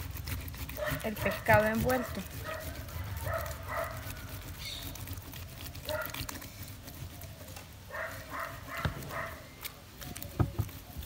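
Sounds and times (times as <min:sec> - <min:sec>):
tomato scraping on metal grater: 0:00.0 - 0:11.0.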